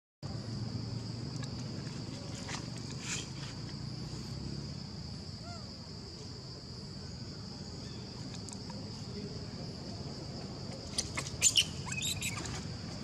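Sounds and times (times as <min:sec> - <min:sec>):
insects droning: 0:00.2 - 0:13.0.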